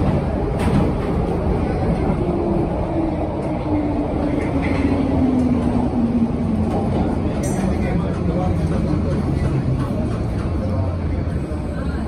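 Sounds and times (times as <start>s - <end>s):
train rumbling into station: 0.0s - 12.0s.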